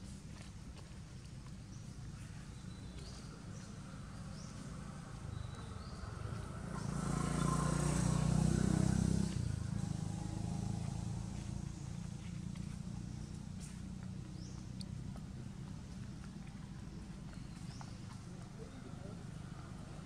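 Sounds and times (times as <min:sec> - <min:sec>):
vehicle engine passing: 0:03.1 - 0:20.0.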